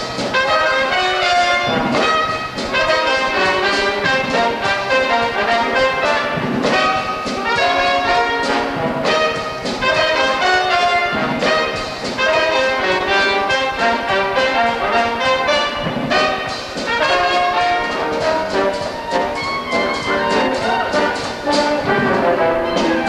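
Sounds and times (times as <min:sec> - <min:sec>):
brass-led orchestra show tune: 0:00.0 - 0:23.0.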